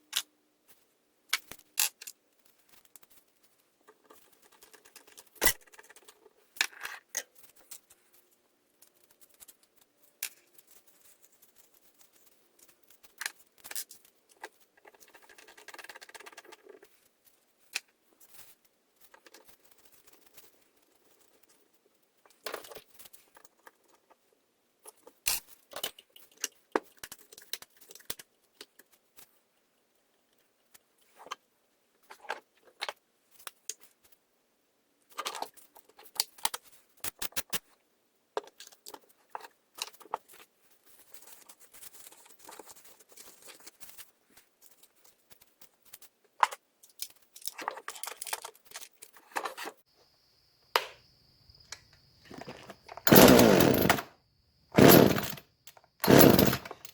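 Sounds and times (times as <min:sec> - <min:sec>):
clicks and clatter of handling: 0:01.3 - 0:24.2, 0:24.8 - 0:29.4, 0:30.2 - 0:31.4, 0:32.0 - 0:34.2, 0:35.1 - 0:37.8, 0:38.4 - 0:49.8, 0:51.7 - 0:54.1, 0:54.8 - 0:56.9.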